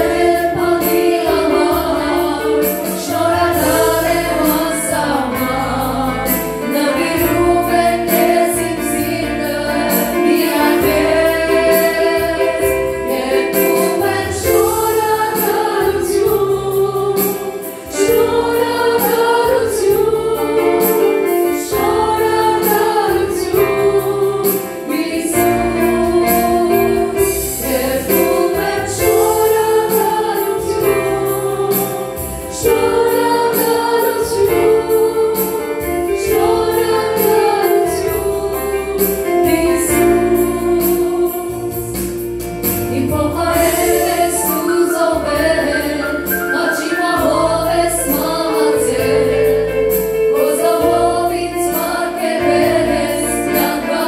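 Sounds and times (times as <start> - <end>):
instrumental backing with bass: 0.0 - 54.0
voices singing worship song: 0.0 - 54.0.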